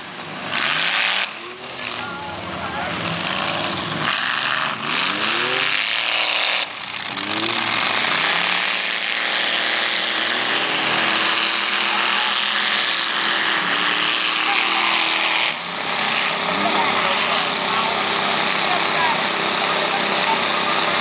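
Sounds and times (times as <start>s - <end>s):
truck engines revving: 0.0s - 21.0s.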